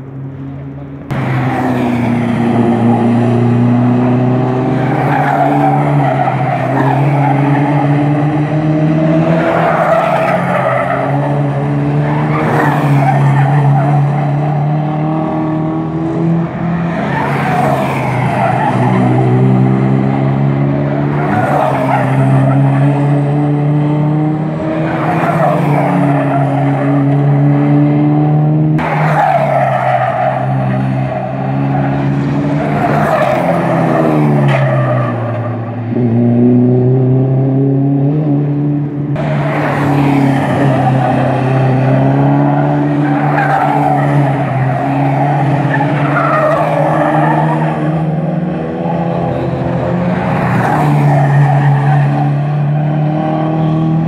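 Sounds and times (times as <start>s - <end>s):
car engines at high revs: 0.0s - 54.0s.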